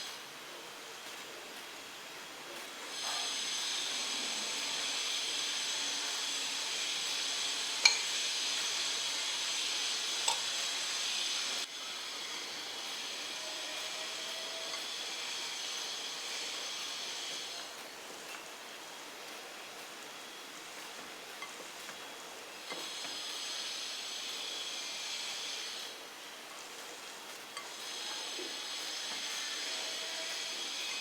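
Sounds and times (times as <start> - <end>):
food sizzling in hot oil: 2.8 - 31.0.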